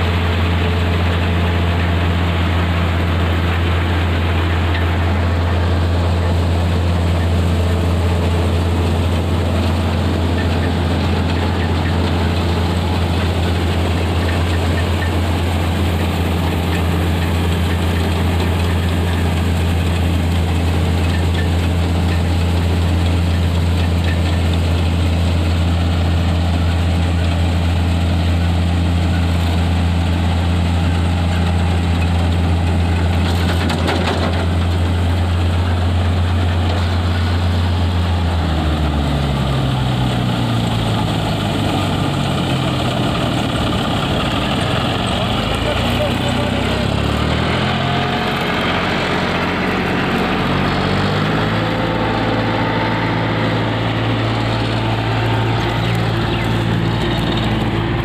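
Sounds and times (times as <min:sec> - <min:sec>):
combine threshing machinery: 0:00.0 - 0:58.0
diesel tractor engine droning: 0:00.0 - 0:58.0.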